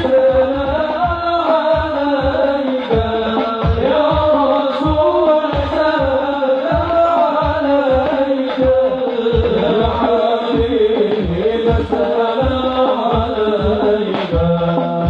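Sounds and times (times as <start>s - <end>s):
low drum beats: 0.0s - 15.0s.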